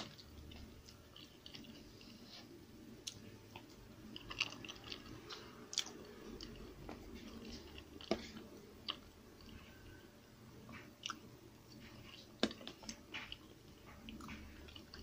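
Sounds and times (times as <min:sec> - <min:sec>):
chewing food: 0:00.0 - 0:10.0, 0:10.7 - 0:15.0.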